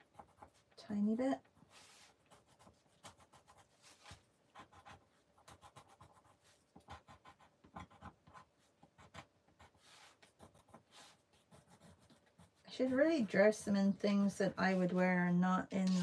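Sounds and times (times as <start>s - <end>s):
coloured pencil scratching on paper: 0.0s - 15.1s.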